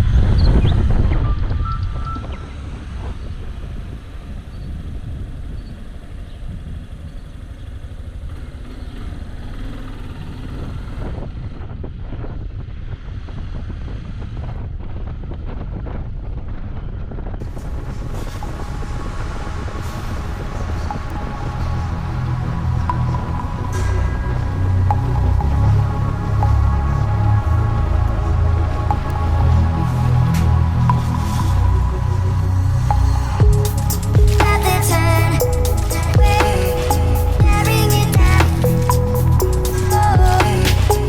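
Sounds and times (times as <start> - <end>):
wind rumble on microphone: 0.0 - 8.4, 10.3 - 38.6.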